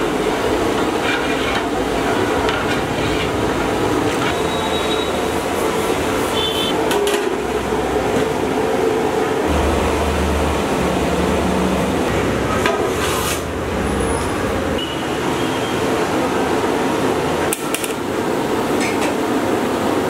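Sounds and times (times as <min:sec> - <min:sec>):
gas burner roaring: 0:00.0 - 0:20.0.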